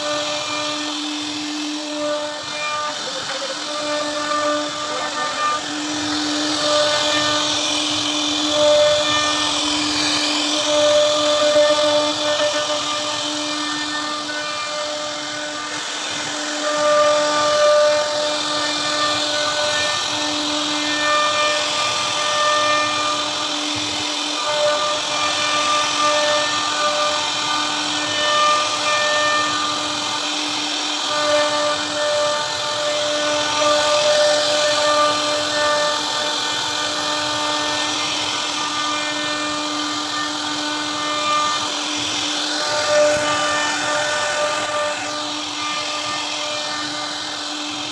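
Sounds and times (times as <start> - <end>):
bit carving wood: 0.0 - 47.9
router spindle whining: 0.0 - 47.9.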